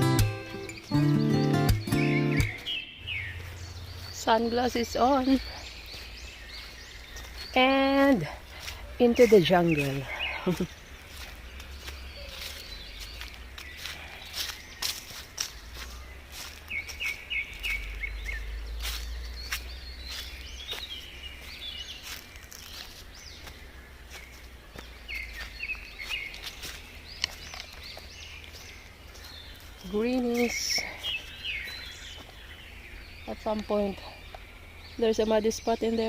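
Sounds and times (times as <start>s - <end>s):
bird chirp: 0.0s - 36.0s
footsteps on forest trail: 0.0s - 36.0s.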